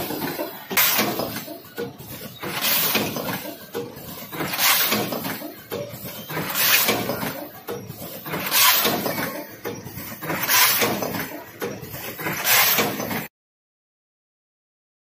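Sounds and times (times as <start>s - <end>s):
packaging machine running: 0.0s - 13.3s.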